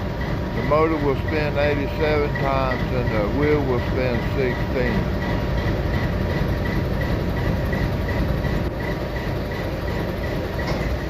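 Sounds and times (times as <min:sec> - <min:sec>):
diesel locomotive rumbling: 0:00.0 - 0:11.0.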